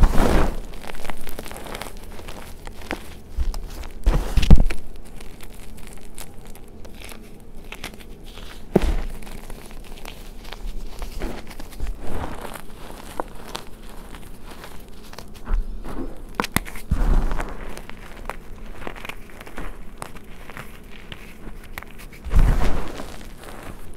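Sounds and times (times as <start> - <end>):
chalk crunching in hands: 0.0 - 23.9.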